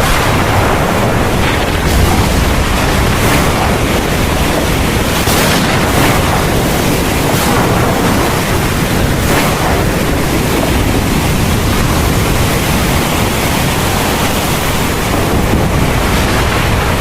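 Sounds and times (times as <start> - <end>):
heavy rain pouring: 0.0 - 17.0
low rumble: 0.0 - 17.0.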